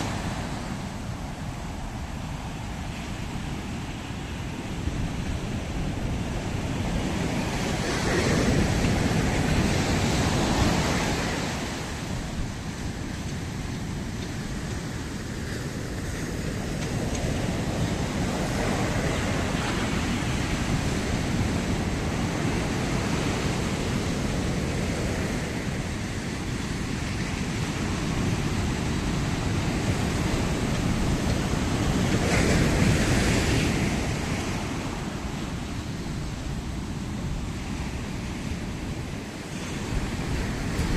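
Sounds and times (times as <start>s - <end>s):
ocean surf washing onto beach: 0.0s - 40.9s
wind noise on microphone: 0.0s - 40.9s.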